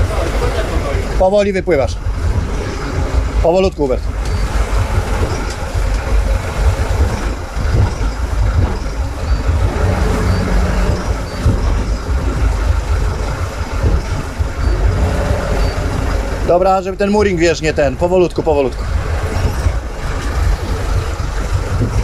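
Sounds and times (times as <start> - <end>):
boat engines low rumble: 0.0 - 22.0.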